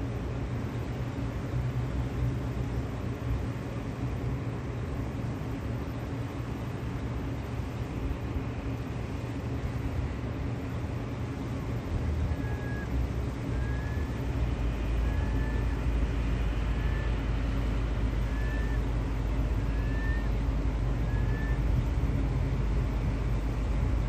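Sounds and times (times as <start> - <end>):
faint hum: 0.0 - 24.0
low engine rumble: 0.0 - 24.0.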